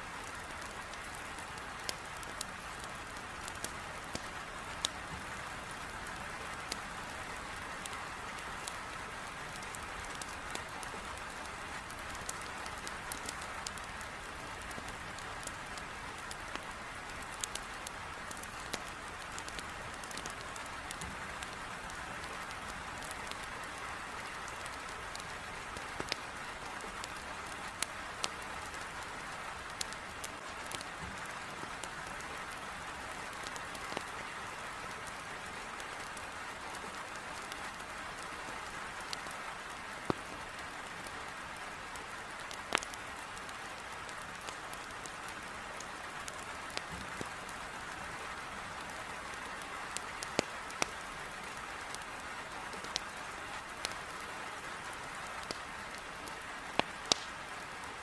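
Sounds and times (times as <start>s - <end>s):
firewood crackling and popping: 0.0s - 58.0s
heavy rain on a window: 0.0s - 58.0s.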